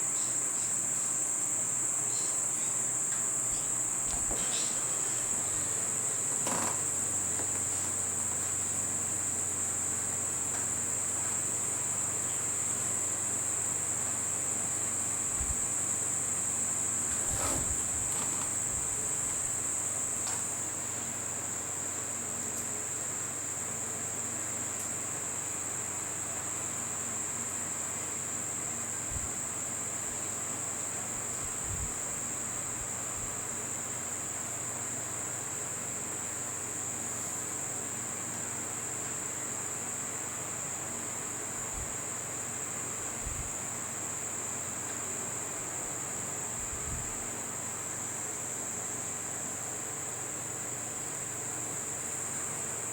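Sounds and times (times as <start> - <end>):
high-pitched insect chorus: 0.0 - 52.9.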